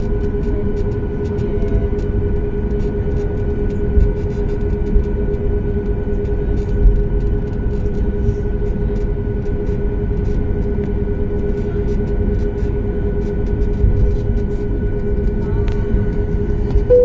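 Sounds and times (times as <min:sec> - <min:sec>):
constant hum: 0:00.0 - 0:17.0
low mechanical rumble: 0:00.0 - 0:17.0.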